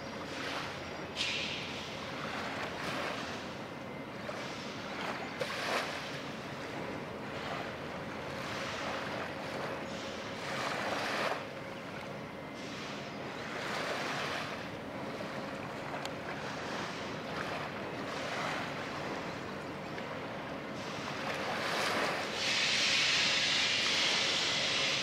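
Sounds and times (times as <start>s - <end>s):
faint steady hum: 0.0s - 25.0s
water washing in swells: 0.0s - 25.0s.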